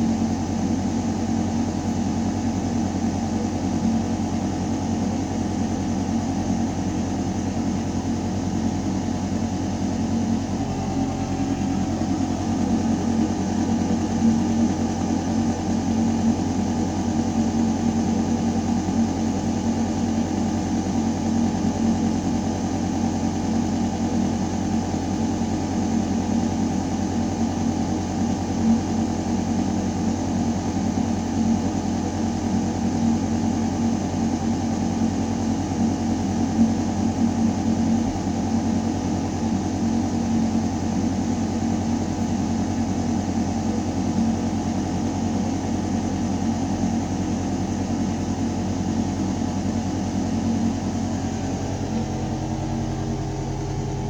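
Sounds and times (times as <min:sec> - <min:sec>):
ventilation system humming: 0:00.0 - 0:54.0.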